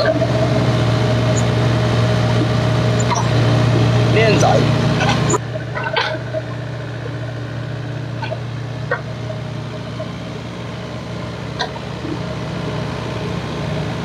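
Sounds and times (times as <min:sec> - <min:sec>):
large engine running steadily: 0:00.0 - 0:14.0.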